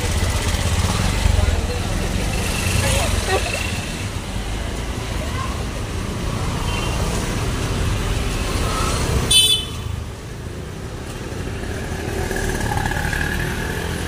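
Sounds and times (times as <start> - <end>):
scooters and motorcycles passing: 0.0 - 14.0.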